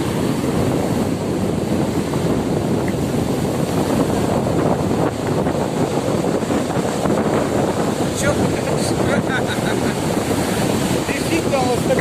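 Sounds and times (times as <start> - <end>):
storm surf breaking on shore: 0.0 - 12.0
strong wind on microphone: 0.0 - 12.0.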